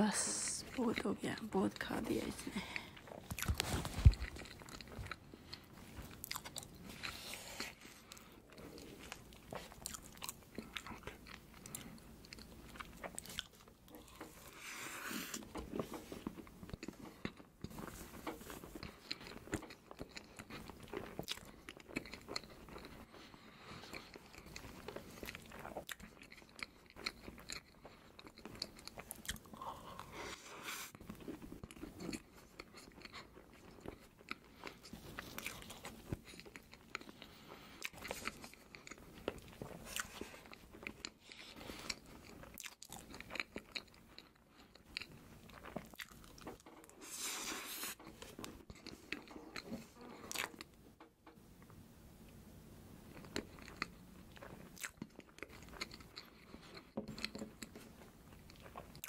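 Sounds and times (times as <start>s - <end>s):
wet chewing and lip-smacking: 2.5s - 30.2s, 31.0s - 50.8s, 53.1s - 59.0s.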